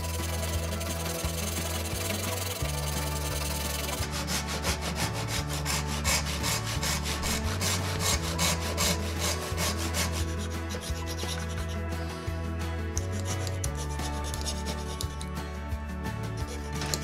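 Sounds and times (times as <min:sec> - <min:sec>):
hand saw cutting wood: 0:00.0 - 0:12.0, 0:12.9 - 0:15.4, 0:16.4 - 0:17.0.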